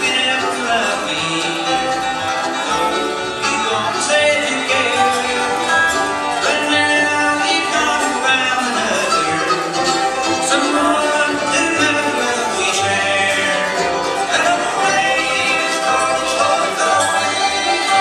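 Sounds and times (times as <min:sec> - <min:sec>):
acoustic guitar: 0:00.0 - 0:18.0
banjo: 0:00.0 - 0:18.0
mandolin: 0:00.0 - 0:18.0
upright bass: 0:00.0 - 0:18.0.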